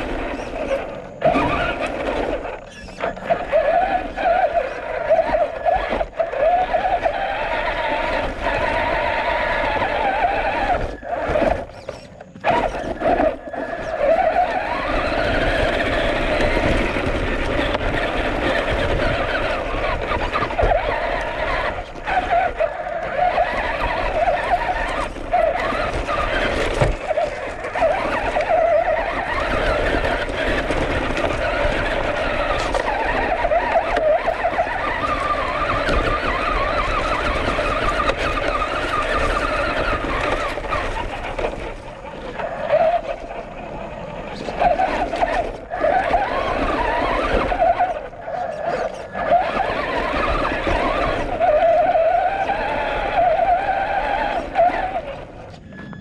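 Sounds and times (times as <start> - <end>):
toy truck electric motor whining: 0.0 - 56.0
tyres crunching on dirt: 0.0 - 56.0.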